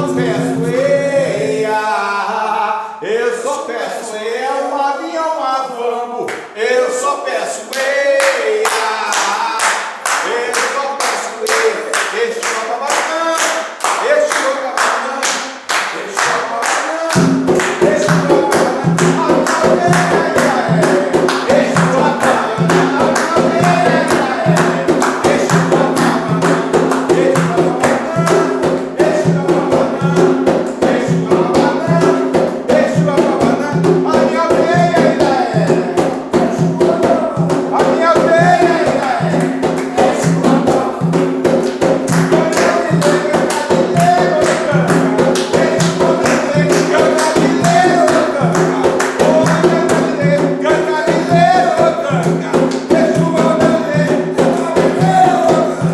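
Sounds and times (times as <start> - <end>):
hand percussion beat: 0.0 - 2.1, 7.7 - 55.9
group chanting: 0.0 - 55.9.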